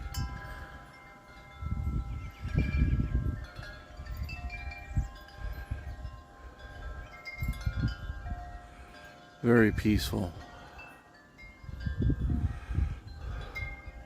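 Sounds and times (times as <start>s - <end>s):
wind buffeting microphone: 0.0s - 14.0s
wind chimes ringing: 0.0s - 14.0s.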